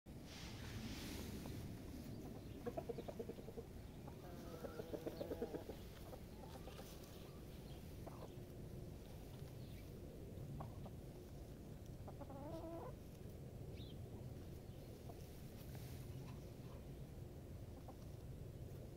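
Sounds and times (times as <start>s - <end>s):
chickens clucking: 1.1s - 18.9s.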